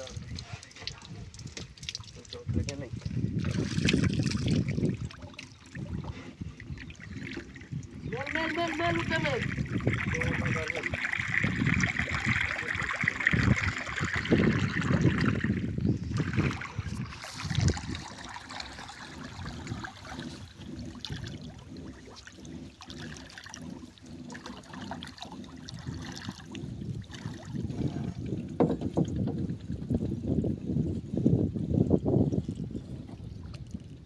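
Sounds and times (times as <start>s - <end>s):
water lapping against boat hull: 0.0s - 34.0s.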